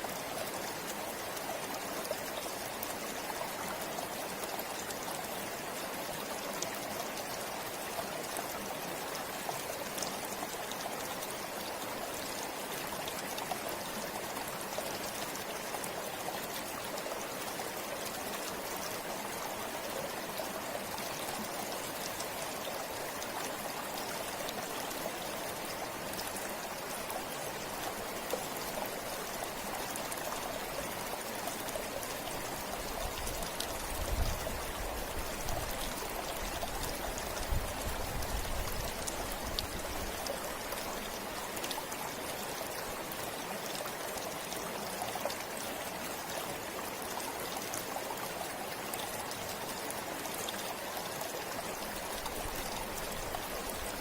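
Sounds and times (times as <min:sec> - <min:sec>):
water splashing and trickling: 0:00.0 - 0:54.0.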